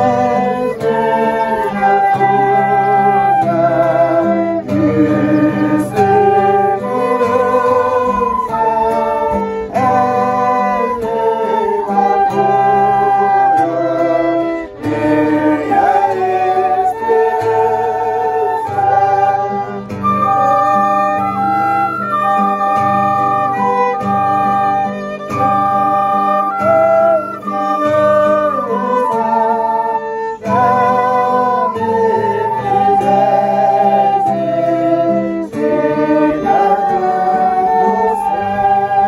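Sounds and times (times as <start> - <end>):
acoustic guitar: 0.0 - 39.0
flutes playing a hymn: 0.0 - 39.0
violin: 0.0 - 39.0
voices singing: 0.0 - 39.0.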